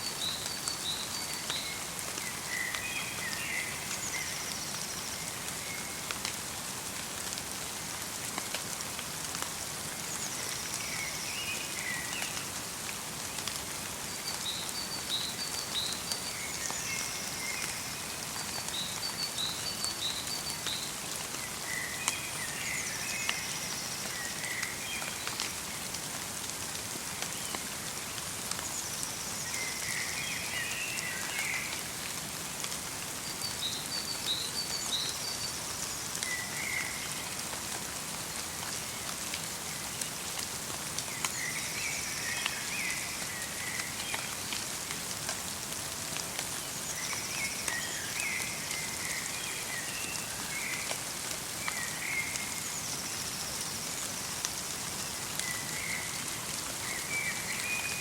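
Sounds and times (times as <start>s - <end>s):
light rain pattering: 0.0s - 58.0s.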